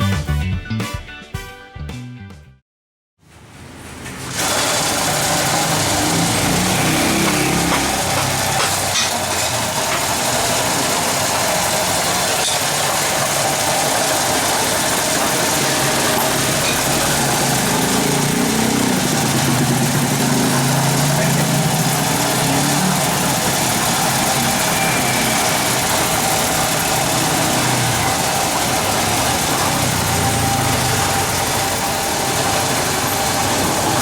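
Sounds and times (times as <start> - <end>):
diesel engine idling: 4.8 - 34.0.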